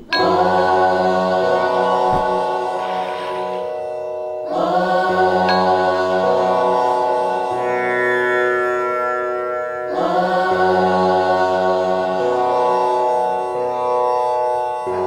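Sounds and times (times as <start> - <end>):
music with held tones: 0.0 - 15.0.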